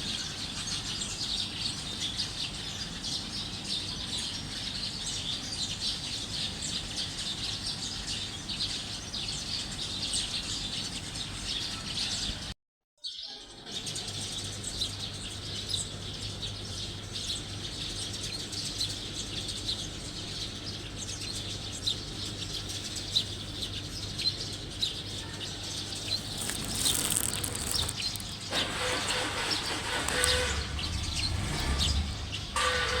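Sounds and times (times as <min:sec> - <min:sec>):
small birds chirping: 0:00.0 - 0:32.6.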